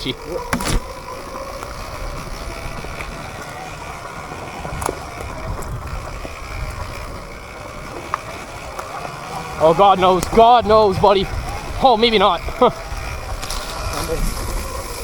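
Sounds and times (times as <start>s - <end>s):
wind on microphone: 0.0s - 8.7s, 9.3s - 15.0s
tyres rolling over dirt: 0.0s - 15.0s.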